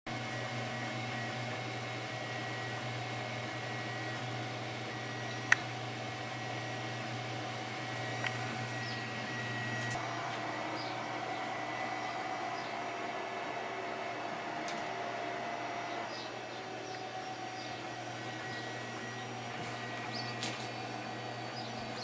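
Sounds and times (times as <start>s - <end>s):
fan hum: 0.1s - 22.0s
stepper motors whining: 0.1s - 22.0s.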